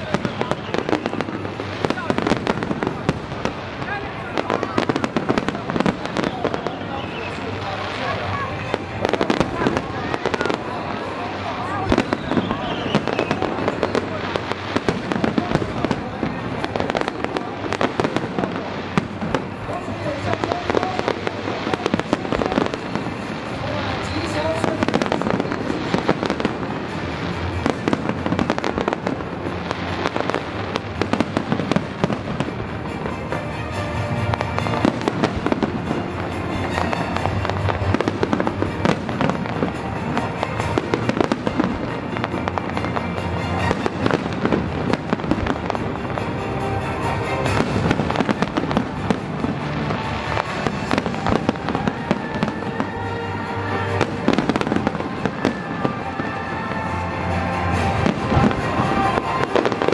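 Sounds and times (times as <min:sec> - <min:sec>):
fireworks bursting: 0:00.0 - 0:59.9
music playing: 0:00.0 - 0:59.9.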